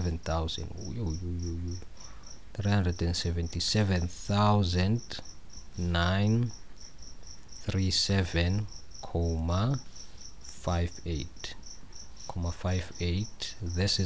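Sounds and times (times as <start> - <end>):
person speaking: 0.0 - 6.5, 7.6 - 9.9, 10.5 - 11.6, 12.3 - 14.0
insect chirping: 0.0 - 14.0.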